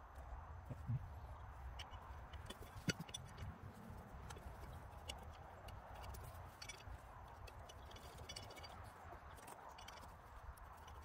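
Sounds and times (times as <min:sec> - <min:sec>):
light metallic ticks and clicks: 0:00.0 - 0:11.0.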